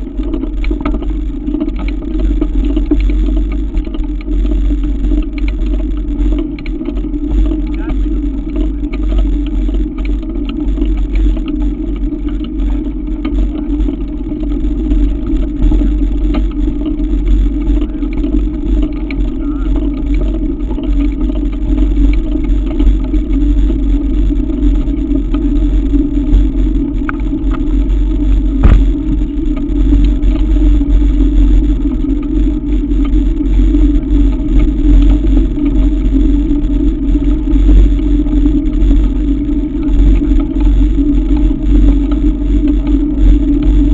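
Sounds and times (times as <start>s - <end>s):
bike tyres rolling on gravel: 0.0s - 43.9s
wind rumbling on microphone: 0.0s - 43.9s.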